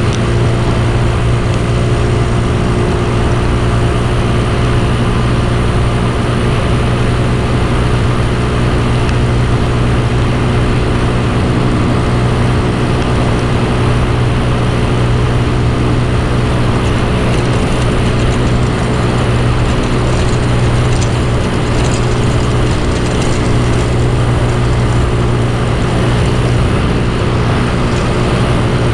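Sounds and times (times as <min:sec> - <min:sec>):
go-kart engine running: 0:00.0 - 0:28.9.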